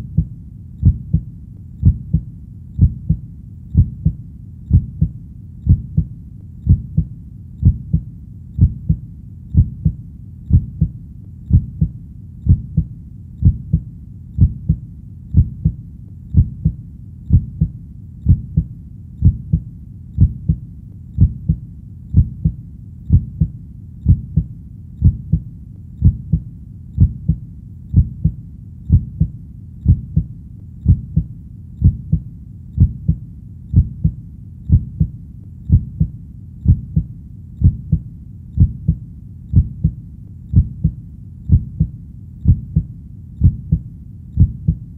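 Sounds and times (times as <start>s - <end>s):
heartbeat thuds: 0.0s - 20.6s, 21.2s - 44.9s
faint low rumble: 0.0s - 44.9s.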